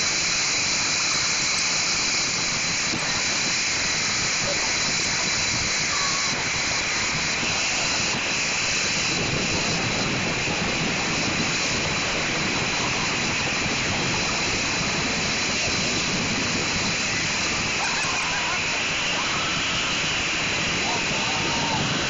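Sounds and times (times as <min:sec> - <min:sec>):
paddle wheels churning water: 0:00.0 - 0:22.0.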